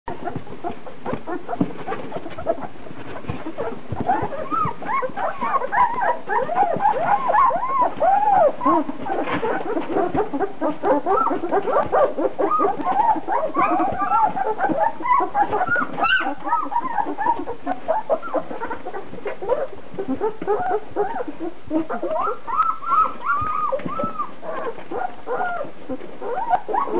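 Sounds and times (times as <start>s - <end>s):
puppies whimpering and squeaking: 0.1s - 26.9s.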